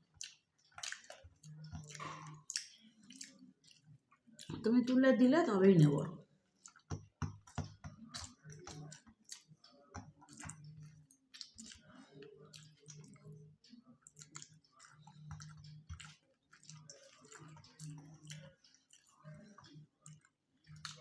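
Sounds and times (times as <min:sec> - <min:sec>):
soft chewing: 0:00.0 - 0:05.0, 0:06.3 - 0:21.0.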